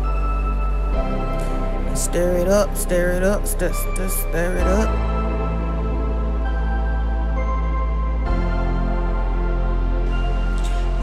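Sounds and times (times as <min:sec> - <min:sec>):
deep steady bass tone: 0:00.0 - 0:11.0
soft sustained music notes: 0:00.0 - 0:11.0.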